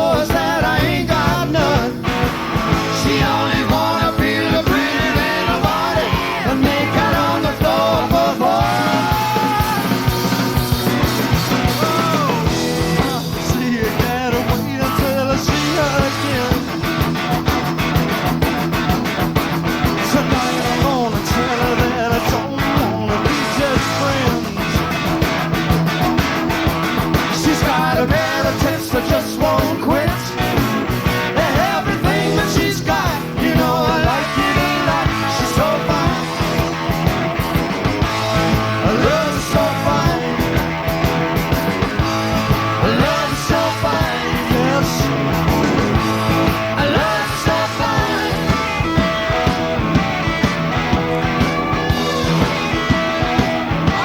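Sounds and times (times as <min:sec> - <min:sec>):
electric guitar lead line: 0:00.0 - 0:54.0
rock band playing: 0:00.0 - 0:54.0.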